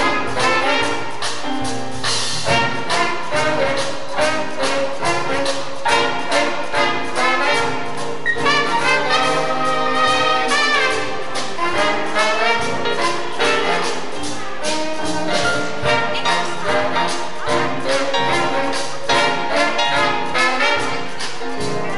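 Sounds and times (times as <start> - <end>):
horn band playing jazz: 0.0 - 21.9.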